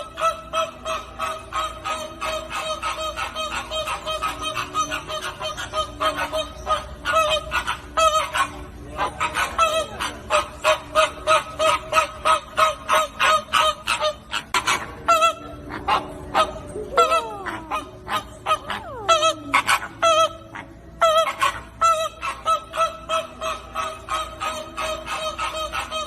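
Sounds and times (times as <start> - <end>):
flock of flamingos calling: 0.0 - 26.0.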